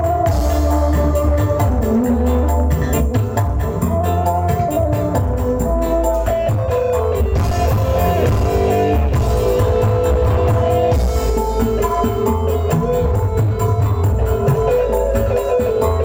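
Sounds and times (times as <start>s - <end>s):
loud bass-heavy music: 0.0s - 16.0s.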